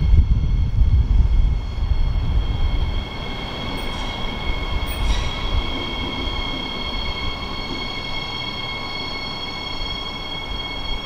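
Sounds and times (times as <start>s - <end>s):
low train rumble: 0.0s - 11.0s
train wheels squealing: 0.0s - 11.0s.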